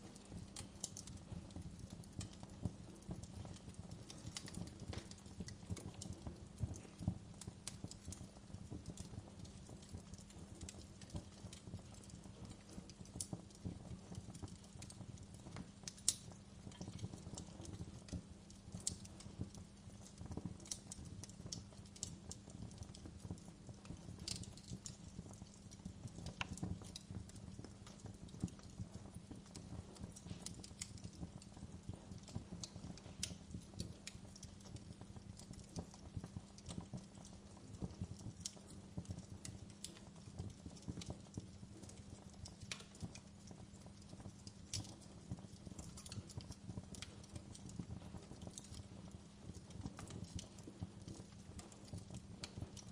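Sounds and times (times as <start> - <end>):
fire crackling and popping: 0.0 - 52.9
low rumble of flame: 0.0 - 52.9.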